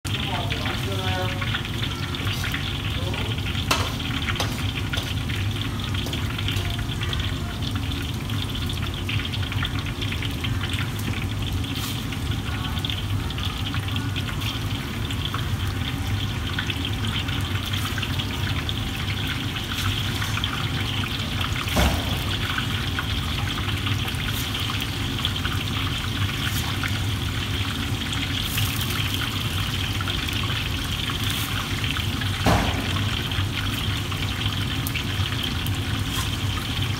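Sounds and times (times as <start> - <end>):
gas burner rumble and hiss: 0.1 - 36.9
sauce simmering and bubbling: 0.1 - 36.9.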